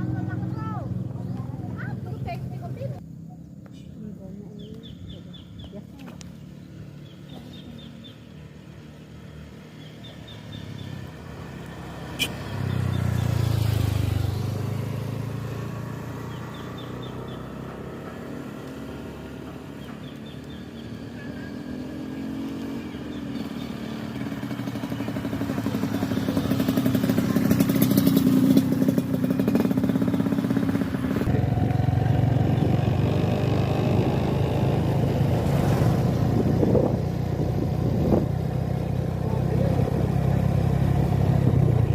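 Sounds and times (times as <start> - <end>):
motorcycle engines passing: 0.0 - 41.9.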